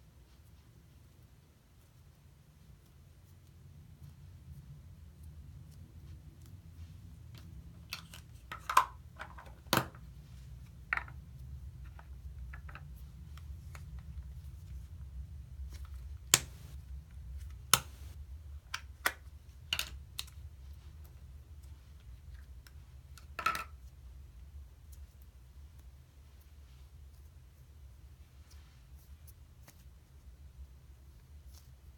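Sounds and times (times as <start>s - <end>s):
faint low hum: 0.0s - 31.9s.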